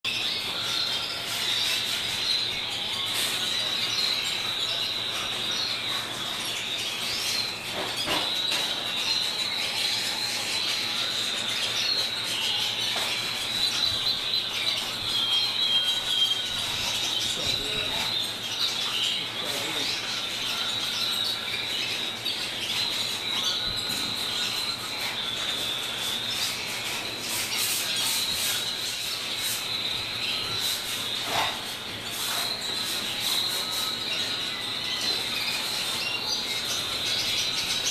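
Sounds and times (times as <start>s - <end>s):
canary singing: 0.1s - 37.9s.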